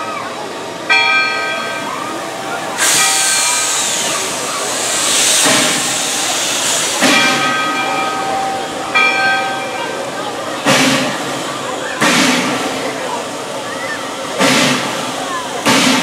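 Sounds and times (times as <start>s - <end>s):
locomotive bell ringing: 0.0s - 16.0s
steam hissing: 1.3s - 16.0s.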